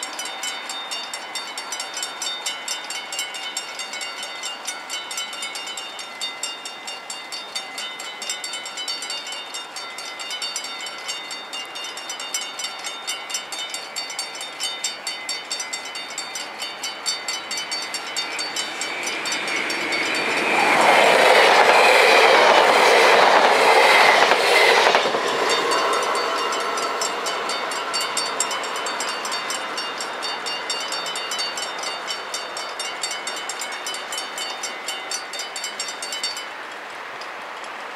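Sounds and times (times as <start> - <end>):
level-crossing bells ringing: 0.0 - 36.8
train wheels rushing on rail: 0.0 - 37.9.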